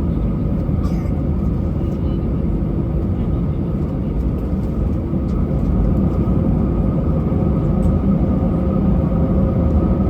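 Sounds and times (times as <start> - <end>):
aircraft cabin engine rumble: 0.0 - 10.0.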